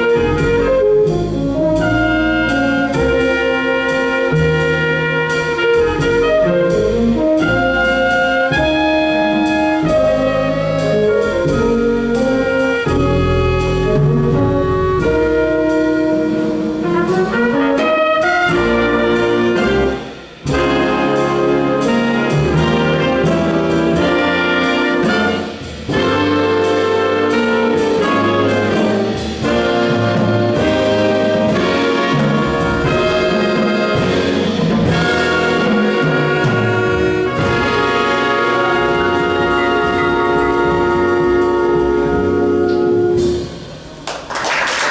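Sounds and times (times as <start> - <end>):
big band jazz: 0.0 - 44.9.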